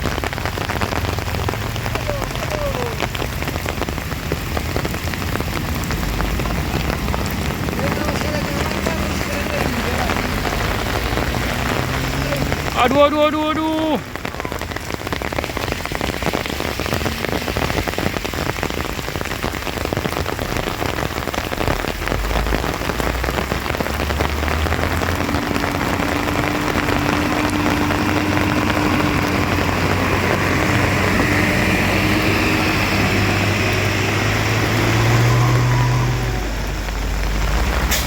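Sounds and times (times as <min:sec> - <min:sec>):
heavy rain falling: 0:00.0 - 0:38.0
vehicle engine running low: 0:00.0 - 0:38.0.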